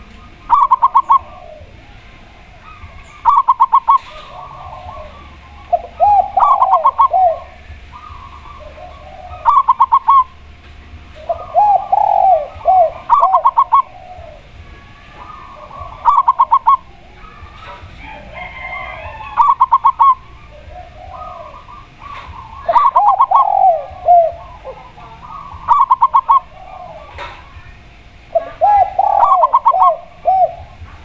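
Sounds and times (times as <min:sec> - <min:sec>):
dove cooing: 0:00.0 - 0:31.0
dove rapid short notes: 0:00.0 - 0:31.0
faint background coos: 0:00.0 - 0:31.0.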